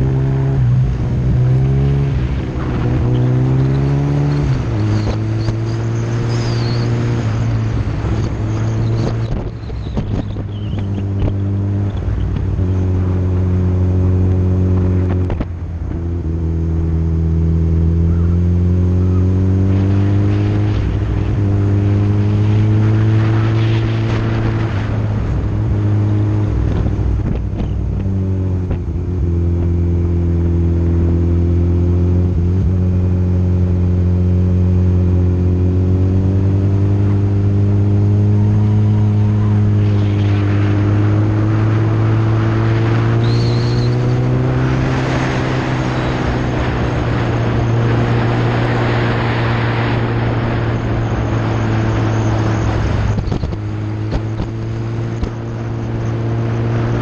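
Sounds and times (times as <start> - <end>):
wind rushing over microphone: 0.0 - 18.3, 19.2 - 31.6, 35.5 - 57.0
motorcycle engine running: 0.0 - 49.0, 49.7 - 57.0.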